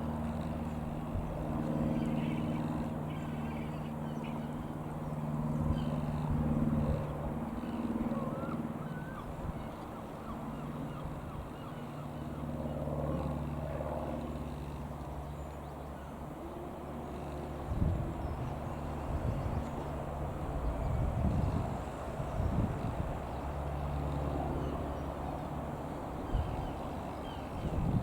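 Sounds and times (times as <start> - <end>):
light aircraft engine droning: 0.0 - 28.0.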